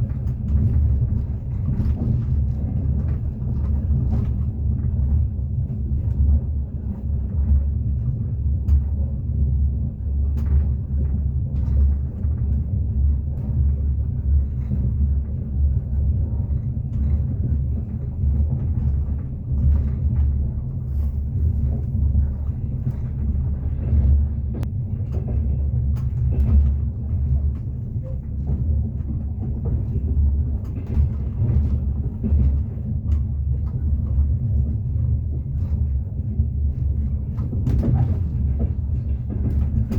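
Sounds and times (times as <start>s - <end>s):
train rumble inside carriage: 0.0s - 39.9s.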